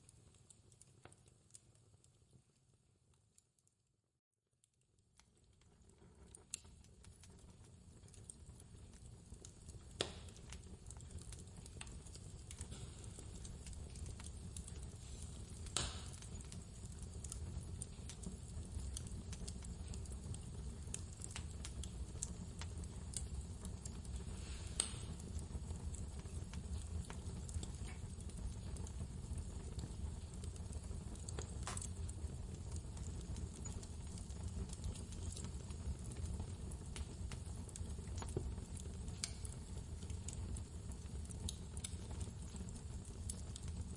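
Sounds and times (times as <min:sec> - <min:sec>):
fireplace crackling: 0:00.0 - 0:03.7, 0:04.6 - 0:43.9
burning wood popping: 0:05.1 - 0:43.9.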